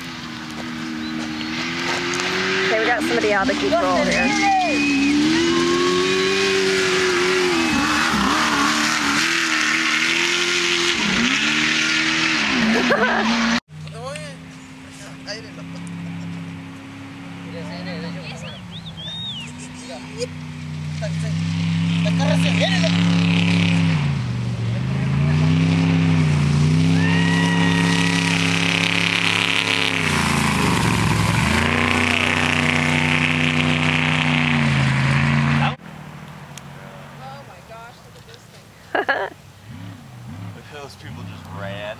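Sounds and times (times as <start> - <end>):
race vehicle engine passing: 0.0 - 38.2, 39.4 - 41.9.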